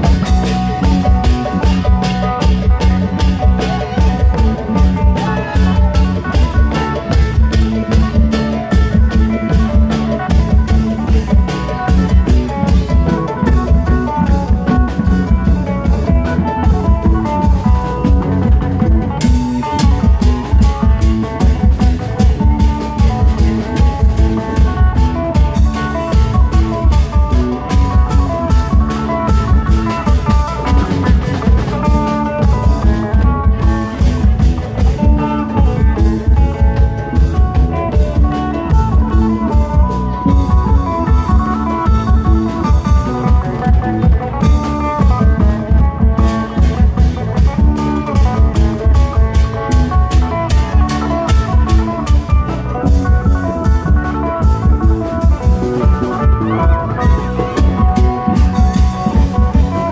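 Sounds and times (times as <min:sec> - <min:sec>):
plucked string melody: 0:00.0 - 0:59.9
pounding drum beat: 0:00.0 - 0:59.9.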